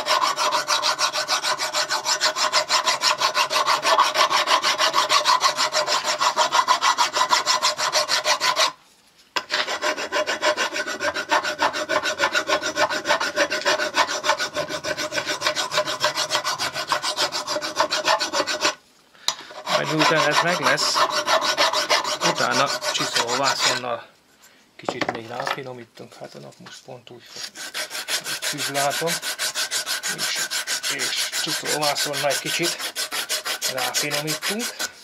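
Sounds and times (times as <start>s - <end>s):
steel file rasping on metal: 0.0s - 8.8s, 9.4s - 18.8s, 19.5s - 23.8s, 27.3s - 35.0s.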